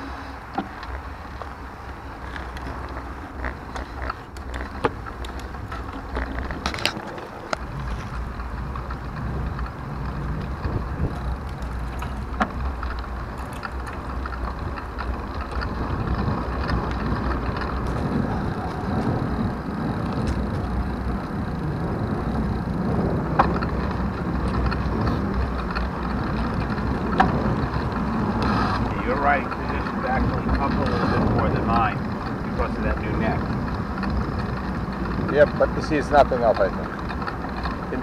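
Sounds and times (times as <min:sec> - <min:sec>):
bicycle tyre road noise: 0:00.0 - 0:38.0
wind rumble on microphone: 0:00.0 - 0:38.0.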